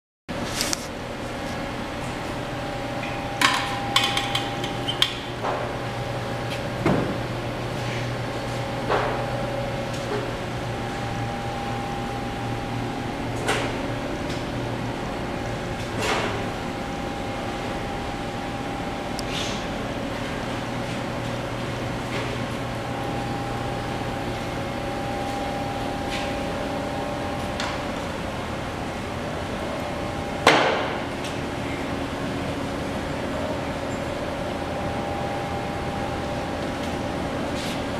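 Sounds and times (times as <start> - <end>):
steady low hum: 0.3 - 37.9.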